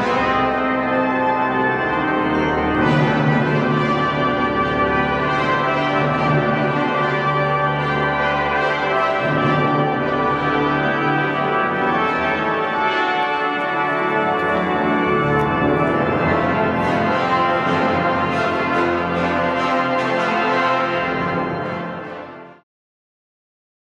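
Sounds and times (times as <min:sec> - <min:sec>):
pipe organ playing chords: 0:00.0 - 0:22.6.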